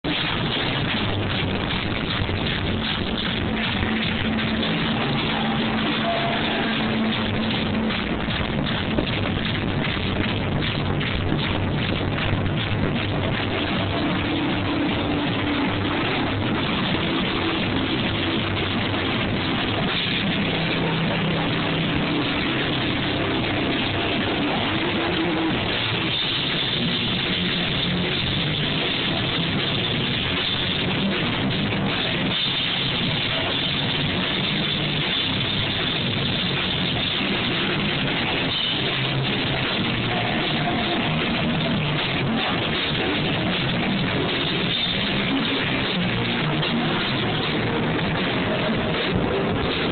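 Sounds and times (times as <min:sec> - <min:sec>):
distorted live rock band: 0:00.0 - 0:49.9.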